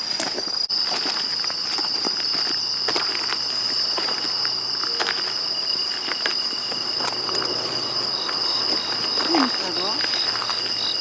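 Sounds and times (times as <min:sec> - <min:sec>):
crickets trilling: 0:00.0 - 0:11.0
lower insect song: 0:00.0 - 0:11.0.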